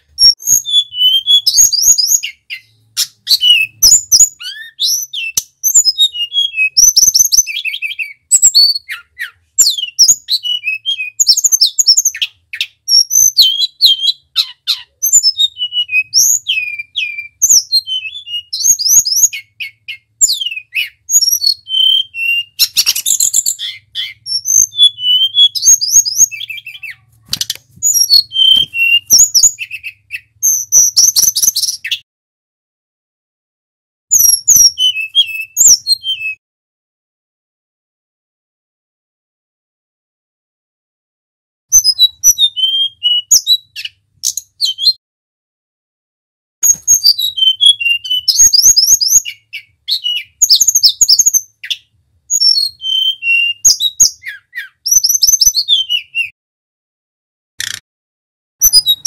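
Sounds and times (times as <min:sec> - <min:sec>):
bird singing whistled phrases: 0:00.1 - 0:32.0, 0:34.1 - 0:36.4, 0:41.7 - 0:45.0, 0:46.6 - 0:56.4, 0:58.6 - 0:59.0.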